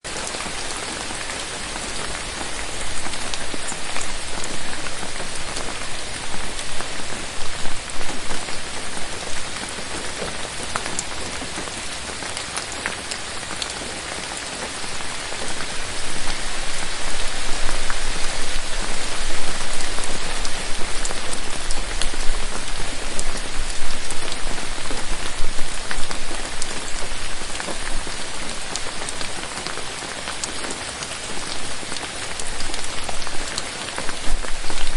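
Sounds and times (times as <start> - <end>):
rain falling on foliage: 0.0 - 34.9
raindrops ticking: 0.1 - 34.9.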